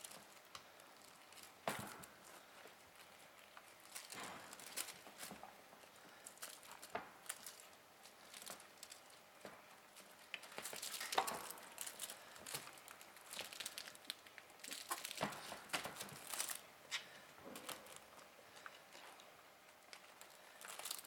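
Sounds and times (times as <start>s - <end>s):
kittens rustling and clicking: 0.0s - 21.0s.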